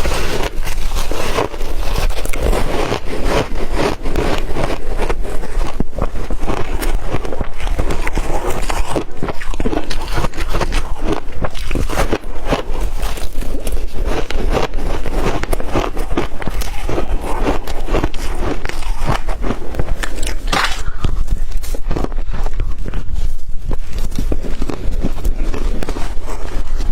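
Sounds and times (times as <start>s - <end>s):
person crunching shaved ice: 0.0s - 26.9s.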